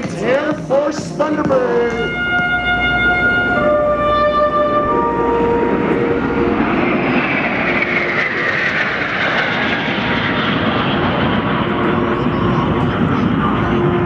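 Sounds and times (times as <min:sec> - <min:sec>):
jet engine roar passing by: 0:00.0 - 0:14.0.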